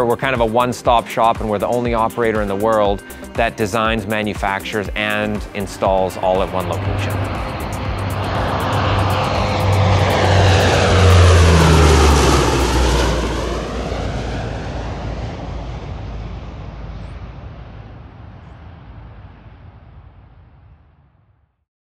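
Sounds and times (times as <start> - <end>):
turboprop aircraft flying past: 1.1 - 3.4, 4.0 - 20.9.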